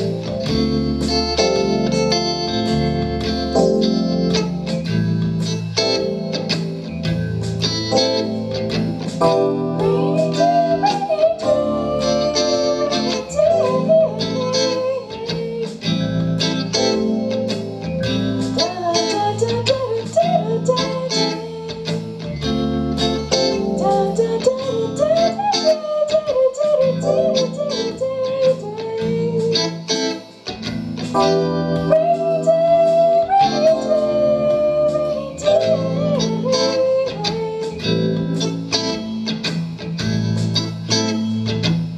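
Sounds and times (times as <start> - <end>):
band playing jazz: 0.0 - 41.9
bending lead guitar line: 0.0 - 41.9.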